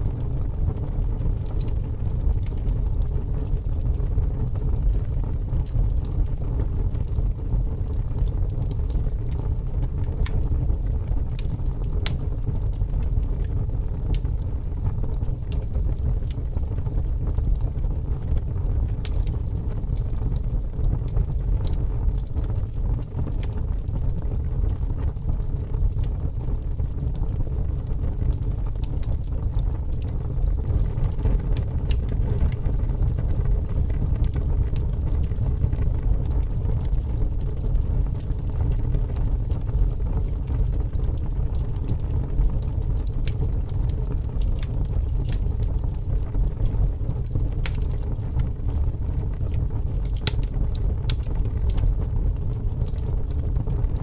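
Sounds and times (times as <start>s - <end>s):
fire crackles and pops: 0.0s - 54.0s
fire low rumble: 0.0s - 54.0s.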